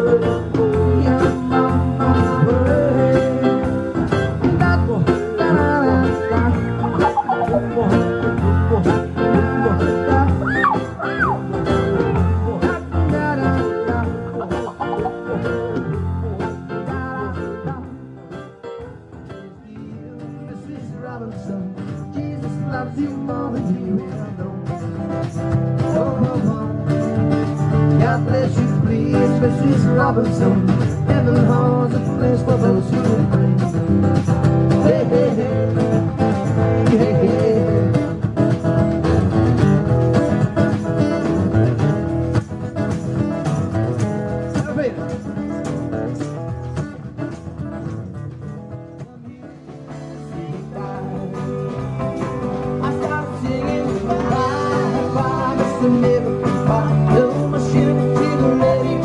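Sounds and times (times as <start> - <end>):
drum kit beat: 0.0 - 19.9, 21.4 - 59.0
acoustic guitars strumming: 0.0 - 59.0.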